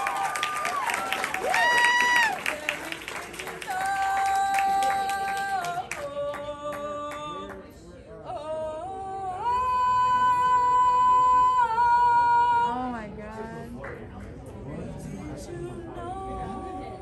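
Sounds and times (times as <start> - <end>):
person singing karaoke: 1.7 - 13.8, 14.7 - 17.0.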